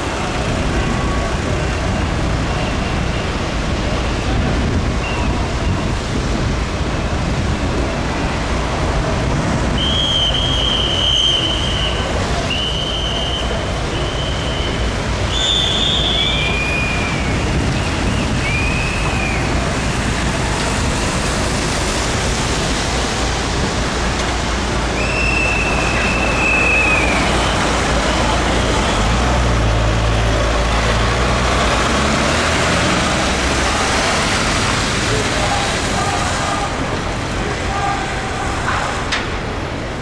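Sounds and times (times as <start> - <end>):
tyres hissing on wet road: 0.0 - 40.0
vehicle engine rumbling: 0.0 - 40.0.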